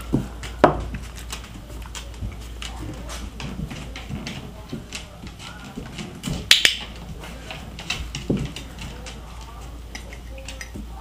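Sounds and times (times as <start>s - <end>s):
dog claws clicking on tile floor: 0.0s - 11.0s.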